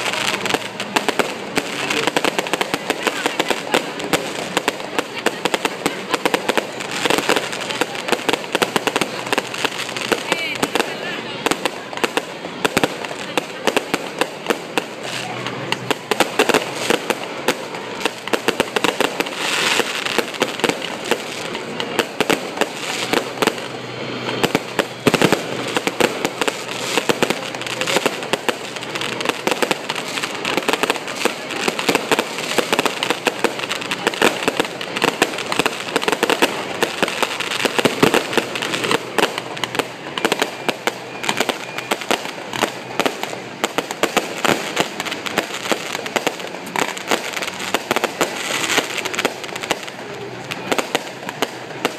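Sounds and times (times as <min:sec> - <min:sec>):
fireworks bangs and pops: 0:00.0 - 0:51.9.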